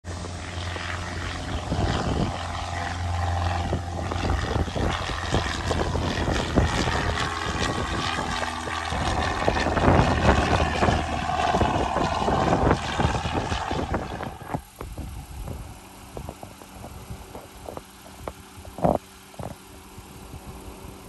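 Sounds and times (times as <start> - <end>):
propeller plane engine droning: 0.0 - 21.0
wind gusts on microphone: 0.1 - 21.0.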